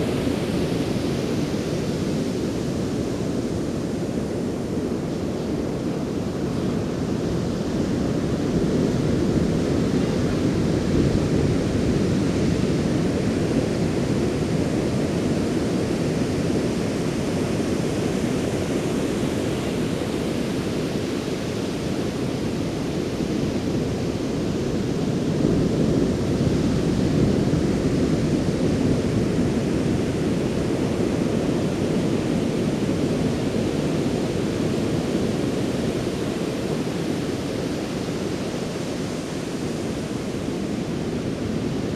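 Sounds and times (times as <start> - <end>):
ocean surf washing on shore: 0.0 - 41.9.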